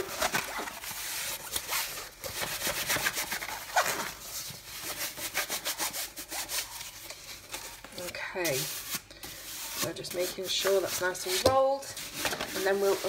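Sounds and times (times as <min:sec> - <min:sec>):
canvas rustling and rubbing: 0:00.0 - 0:13.0.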